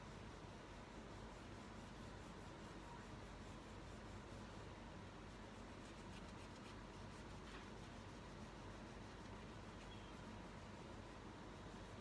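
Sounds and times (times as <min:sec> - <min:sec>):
crayon scratching on paper: 0:00.0 - 0:12.0.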